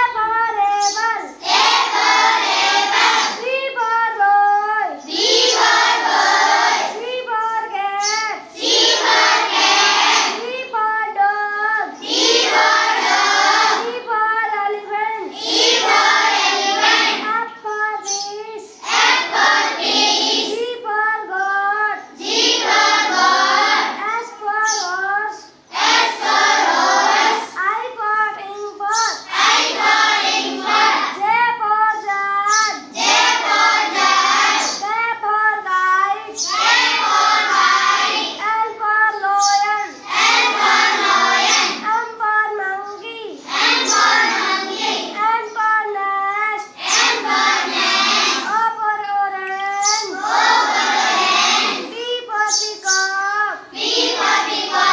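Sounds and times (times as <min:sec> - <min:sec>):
child singing: 0:00.0 - 0:54.9.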